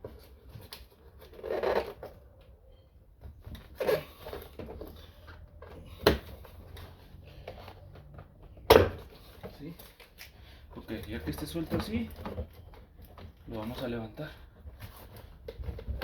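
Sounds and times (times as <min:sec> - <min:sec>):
plastic scraping and rattling: 0:00.0 - 0:16.0.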